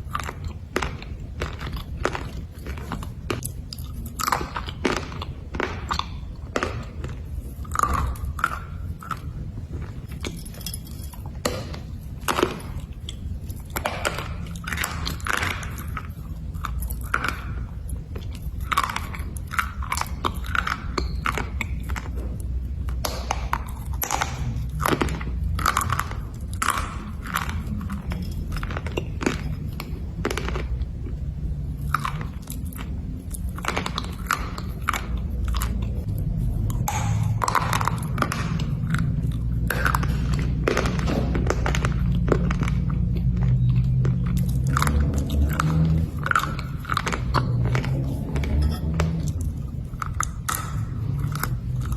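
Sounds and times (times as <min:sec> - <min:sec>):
person crunching slate with teeth: 0:00.0 - 0:51.9.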